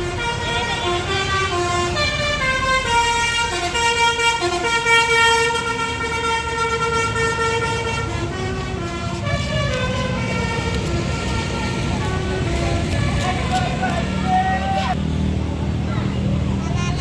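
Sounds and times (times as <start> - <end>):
bus horn playing a melody: 0.0 - 15.0
bus engine rumble: 0.0 - 17.0.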